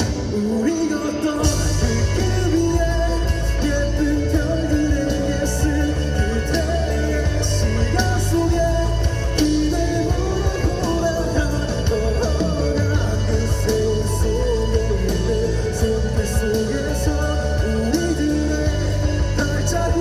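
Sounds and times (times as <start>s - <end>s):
live rock band playing: 0.0s - 20.0s
steady bass line: 0.0s - 20.0s.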